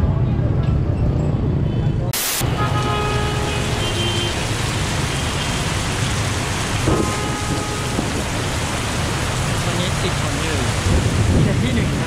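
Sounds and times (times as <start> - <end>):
heavy rain on street: 2.2 - 12.0
traffic driving through rain: 2.2 - 12.0.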